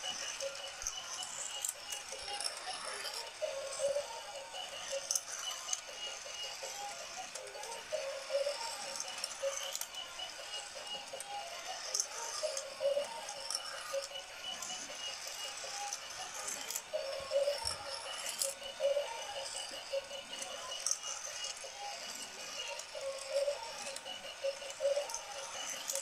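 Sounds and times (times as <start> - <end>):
plastic toy cars rattling on track: 0.0 - 4.0, 4.7 - 18.6, 19.4 - 26.0
small electric motor humming: 0.0 - 26.0.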